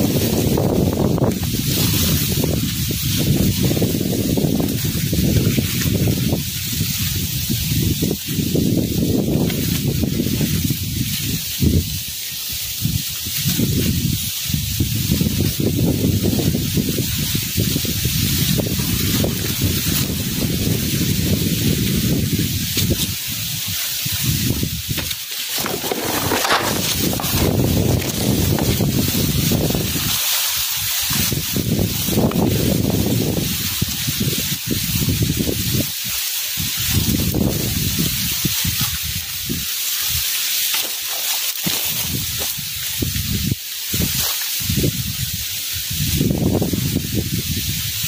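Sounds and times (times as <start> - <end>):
wind buffeting microphone: 0.0 - 40.3, 41.6 - 48.0
wind through leaves: 0.0 - 48.0.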